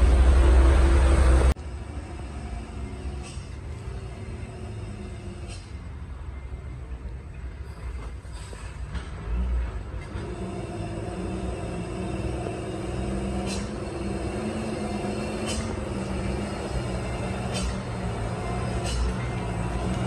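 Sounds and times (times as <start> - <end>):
diesel truck engine running: 0.0 - 7.6, 8.9 - 20.0.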